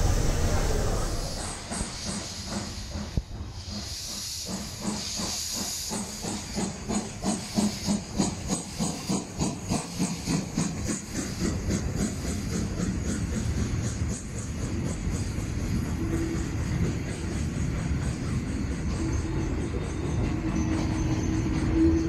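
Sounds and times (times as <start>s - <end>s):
steam hissing: 0.0s - 22.0s
steam locomotive chuffing: 0.0s - 22.0s.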